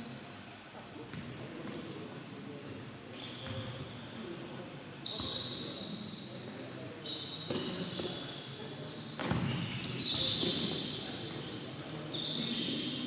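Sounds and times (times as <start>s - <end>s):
shoes squeaking on court floor: 0.4s - 4.2s, 5.0s - 6.0s, 7.0s - 13.0s.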